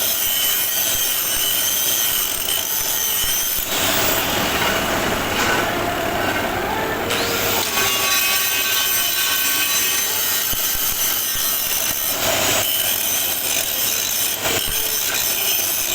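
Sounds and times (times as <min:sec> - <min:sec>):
angle grinder grinding metal: 0:00.0 - 0:15.9.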